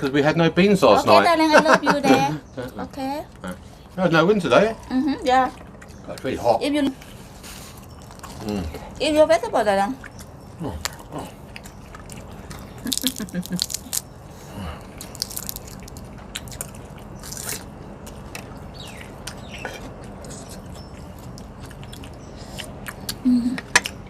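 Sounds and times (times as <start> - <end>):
chewing and crunching: 1.9 - 24.0.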